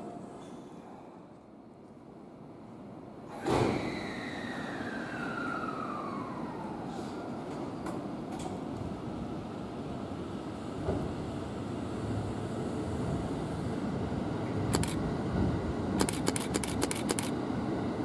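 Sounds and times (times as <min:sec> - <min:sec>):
train motors and wheels rumbling: 0:00.0 - 0:18.0.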